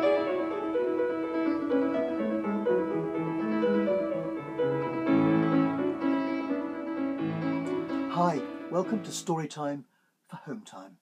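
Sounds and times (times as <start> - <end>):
gentle piano melody: 0.0 - 9.4.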